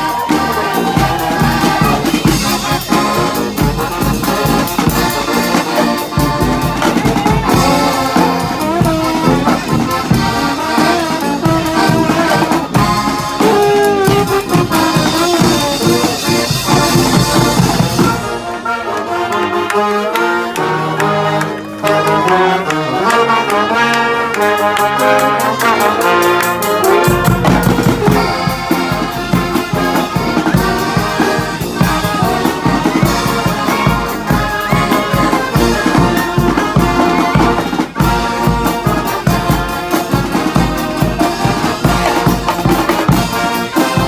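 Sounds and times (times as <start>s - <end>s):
percussion beat: 0.0s - 20.0s, 21.8s - 44.0s
accordion: 0.0s - 44.0s
trombones and trumpets: 0.0s - 44.0s.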